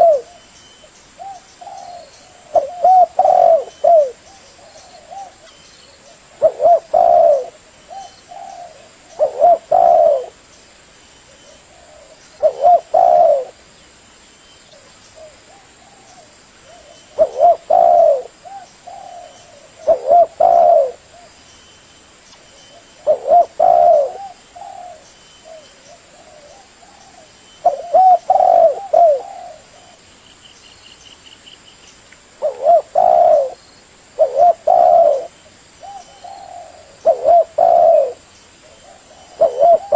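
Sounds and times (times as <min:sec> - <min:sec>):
dove cooing: 0:00.0 - 0:00.5, 0:01.2 - 0:10.4, 0:11.3 - 0:13.6, 0:14.8 - 0:21.4, 0:22.7 - 0:30.0, 0:32.4 - 0:33.6, 0:34.2 - 0:39.9.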